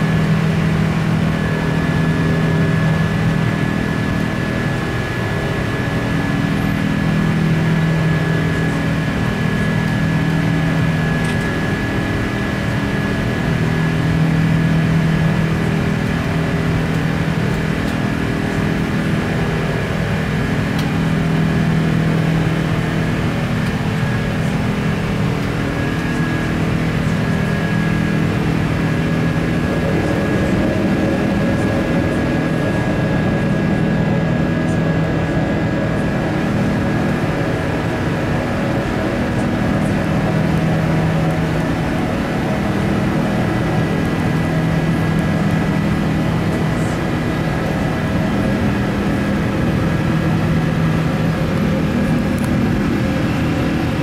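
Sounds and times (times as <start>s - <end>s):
air conditioning: 0.0s - 54.0s
aircraft cabin engine drone: 0.0s - 54.0s.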